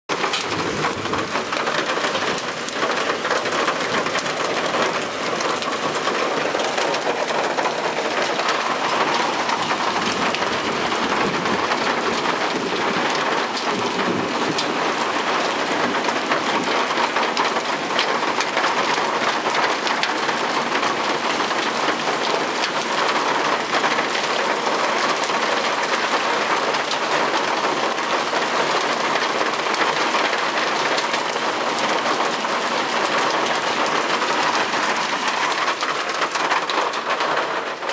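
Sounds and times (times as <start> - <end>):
hail and heavy rain: 0.1 - 37.9.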